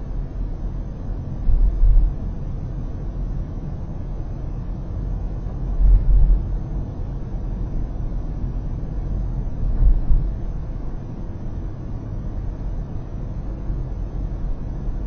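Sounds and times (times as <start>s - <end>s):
car road noise inside cabin: 0.0s - 15.0s.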